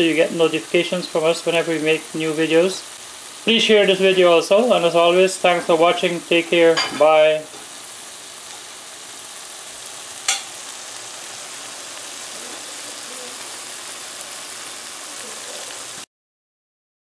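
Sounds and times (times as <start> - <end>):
cabbage sizzling in a pot: 0.0 - 16.1.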